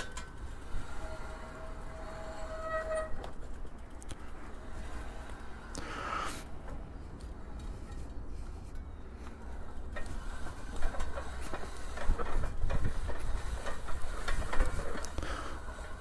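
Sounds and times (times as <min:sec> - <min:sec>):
bike knocking and rattling: 0:00.0 - 0:16.0
electric bike low rumble: 0:00.0 - 0:16.0.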